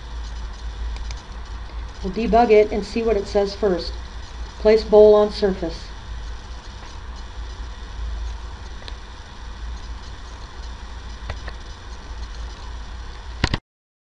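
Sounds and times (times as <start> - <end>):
electrical hum with hiss: 0.0 - 13.6.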